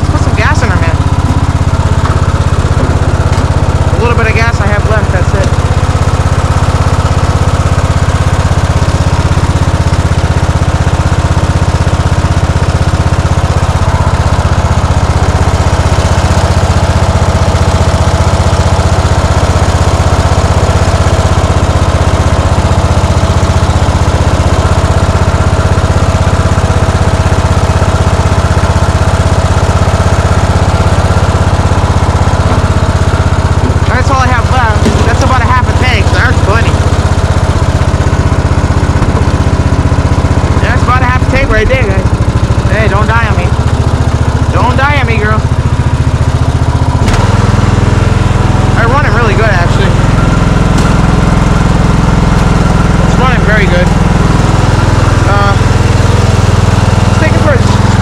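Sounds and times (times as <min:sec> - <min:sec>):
riding lawn mower engine running: 0:00.0 - 0:58.0.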